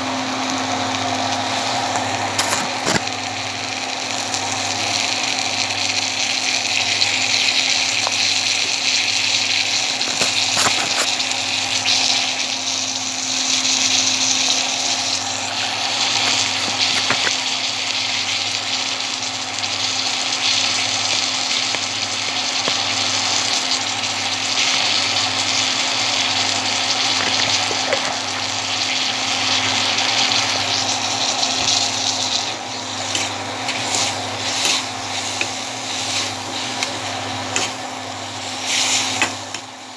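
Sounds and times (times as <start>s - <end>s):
greens sizzling in a wok: 0.0s - 39.9s.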